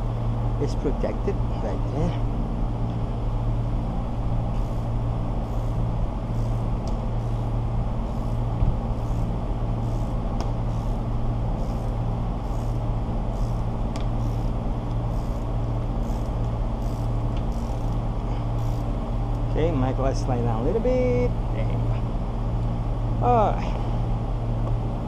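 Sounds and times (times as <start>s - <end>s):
low motor hum: 0.0s - 25.0s.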